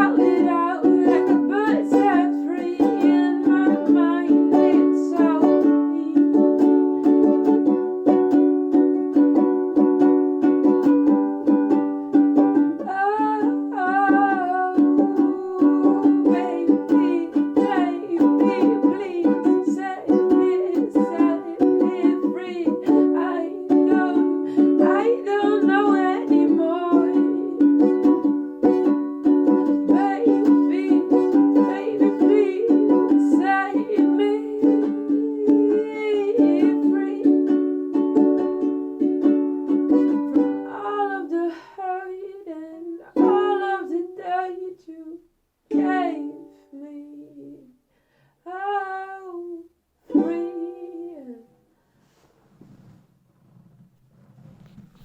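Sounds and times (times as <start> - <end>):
ukulele strumming: 0.0 - 44.7, 45.7 - 47.1, 49.0 - 51.5
person singing: 0.0 - 47.8, 48.5 - 51.5.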